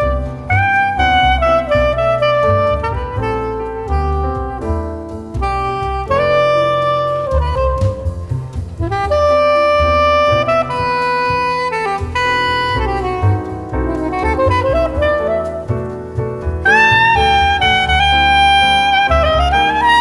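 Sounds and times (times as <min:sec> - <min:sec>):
soft pop ballad: 0:00.0 - 0:20.0.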